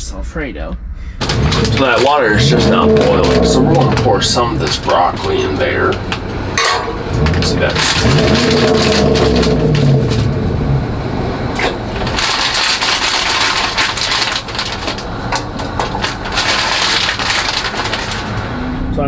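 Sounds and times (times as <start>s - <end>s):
plastic bag crinkling: 1.2s - 10.4s, 11.6s - 18.6s.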